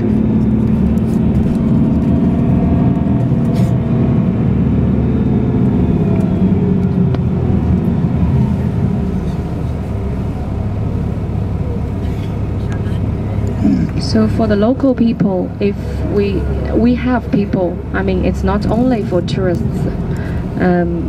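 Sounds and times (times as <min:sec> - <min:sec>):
vehicle engine hum and road noise: 0:00.0 - 0:21.0.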